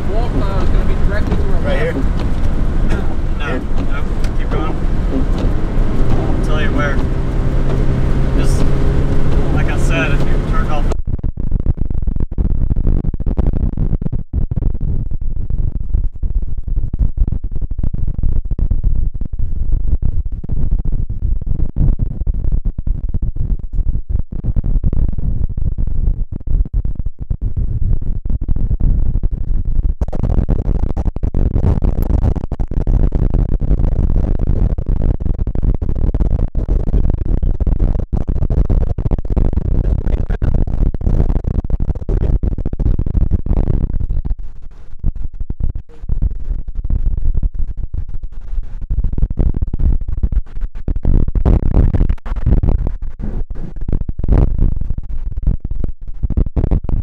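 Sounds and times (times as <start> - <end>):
storm wind buffeting microphone: 0.0 - 57.0.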